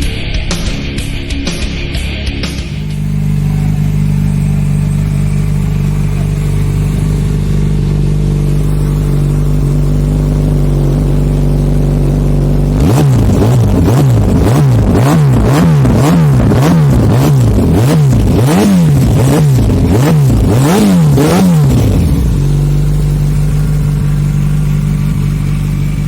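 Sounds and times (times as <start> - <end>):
motorcycle engine revving: 0.8 - 26.0
motorcycle engine idling: 2.1 - 26.0.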